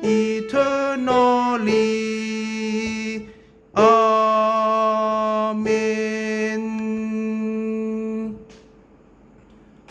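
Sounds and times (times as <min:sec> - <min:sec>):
sustained accompaniment tone: 0:00.0 - 0:08.4.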